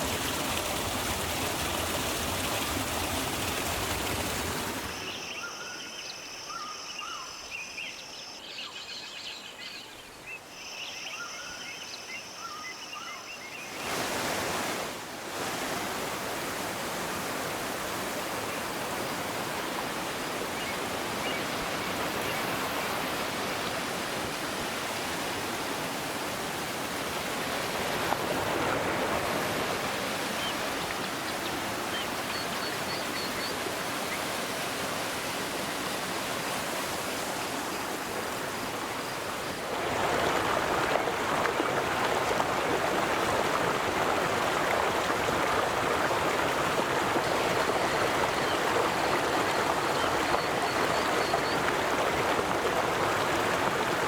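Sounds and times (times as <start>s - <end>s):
river water flowing: 0.0s - 5.8s, 13.2s - 54.0s.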